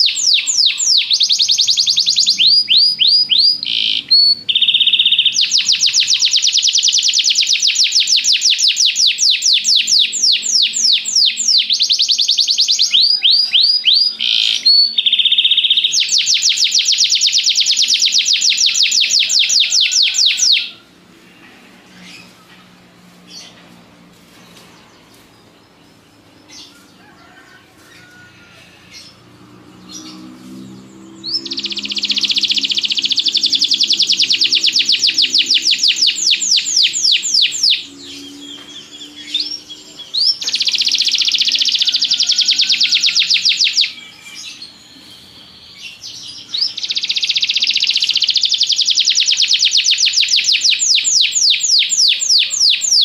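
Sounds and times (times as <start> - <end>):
canary singing trills: 0.0 - 22.4, 24.5 - 53.0.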